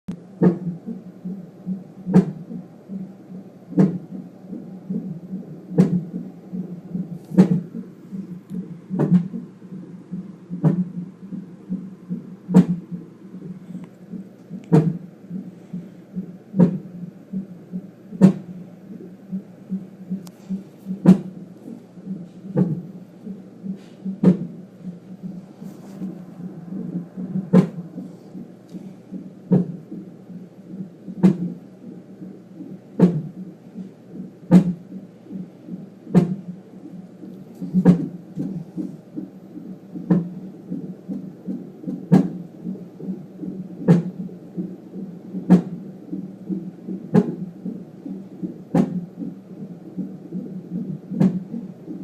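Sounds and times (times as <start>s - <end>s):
low background noise: 0.1s - 52.0s.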